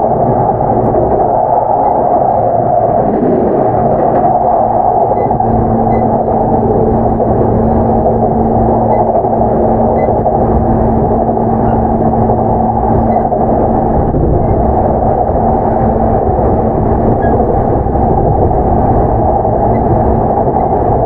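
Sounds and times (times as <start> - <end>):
low hum: 0.0 - 21.0
train wheels rumbling on rail: 0.0 - 21.0.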